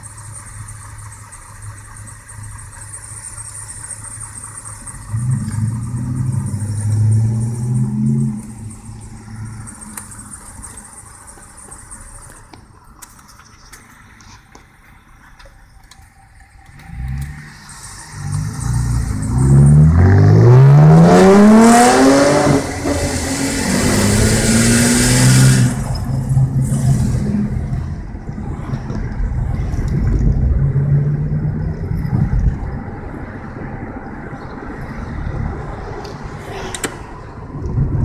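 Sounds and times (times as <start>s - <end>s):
car engine accelerating: 0.0s - 12.6s, 16.6s - 38.0s
road noise: 0.0s - 38.0s.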